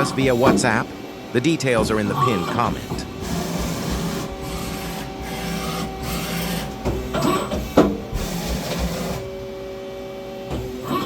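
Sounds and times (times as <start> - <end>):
sharp machine clunks: 0.0 - 1.0, 1.7 - 9.5
lathe machine whine: 0.0 - 11.0.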